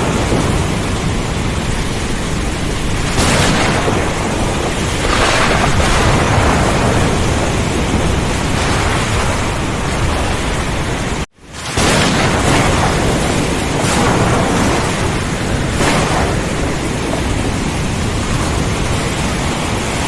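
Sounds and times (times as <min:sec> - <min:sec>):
heavy rain: 0:00.0 - 0:20.0
low rumble of thunder: 0:00.0 - 0:20.0
wind: 0:00.0 - 0:20.0.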